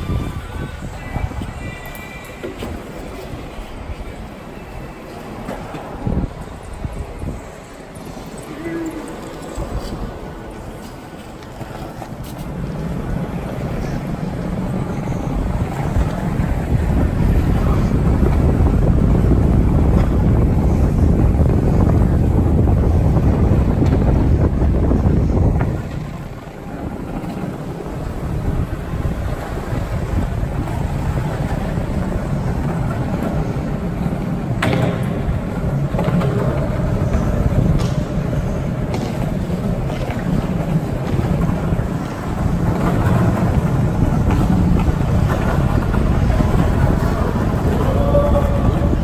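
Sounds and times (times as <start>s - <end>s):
skateboard wheels rolling on concrete: 0.0s - 49.0s
wind buffeting microphone: 0.0s - 49.0s.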